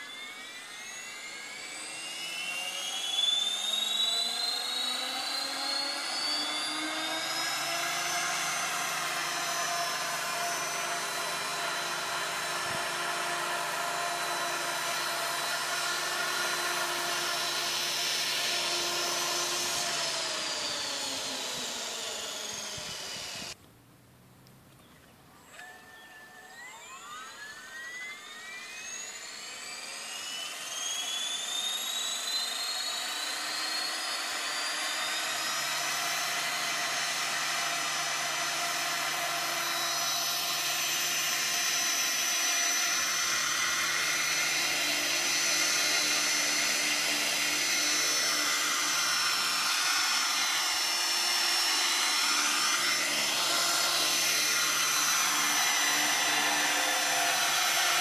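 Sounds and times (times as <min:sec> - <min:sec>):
model helicopter whine: 0:00.0 - 0:23.6, 0:25.2 - 0:58.0.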